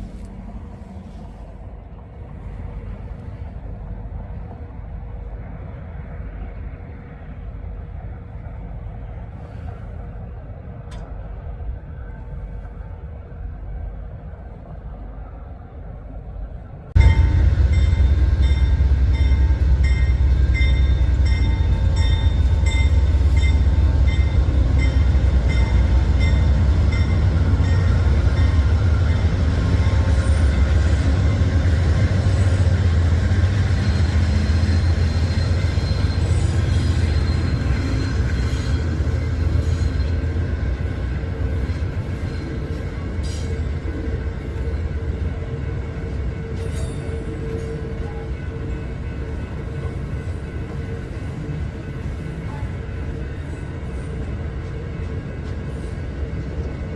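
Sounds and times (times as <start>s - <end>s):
train rumbling past: 0.0s - 56.9s.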